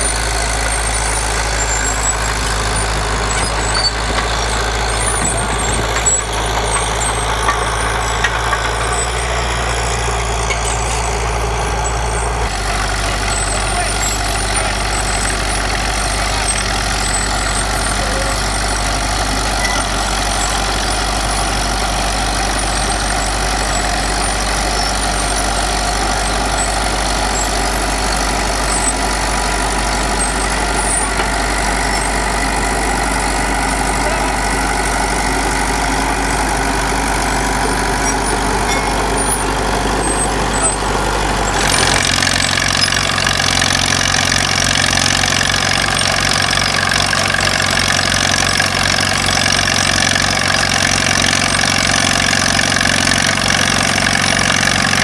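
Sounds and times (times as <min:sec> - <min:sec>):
crawler tractor engine running: 0:00.0 - 0:55.0.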